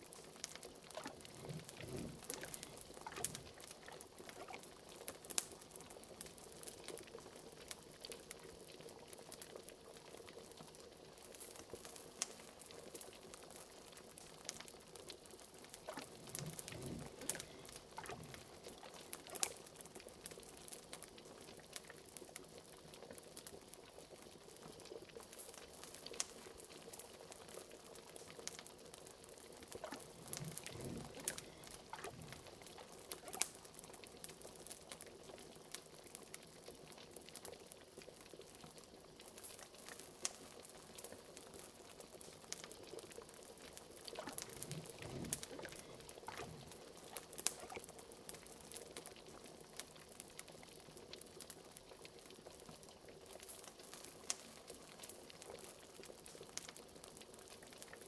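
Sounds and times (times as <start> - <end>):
fire crackling and popping: 0.0 - 58.0
liquid bubbling in a pot: 0.0 - 58.0.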